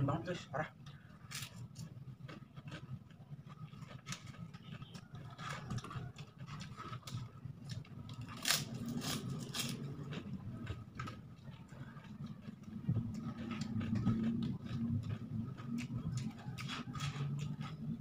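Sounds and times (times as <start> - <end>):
low steady hum: 0.0 - 18.0
chewing: 0.8 - 18.0.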